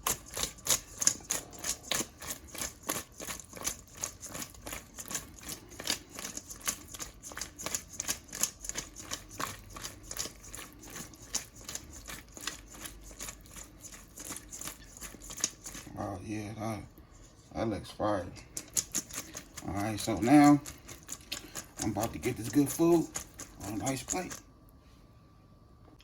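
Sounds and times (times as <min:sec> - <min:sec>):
utensil clicking against bowl: 0:00.0 - 0:15.9, 0:18.5 - 0:24.4.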